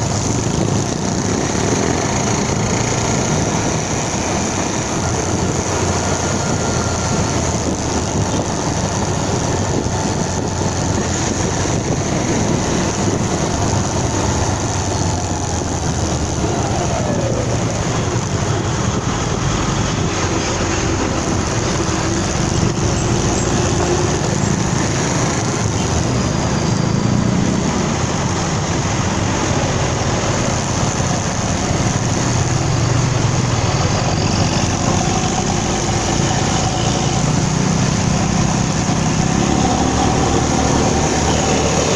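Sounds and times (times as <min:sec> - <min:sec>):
motorcycle engine running: 0:00.0 - 0:41.9
road noise rush: 0:00.0 - 0:41.9.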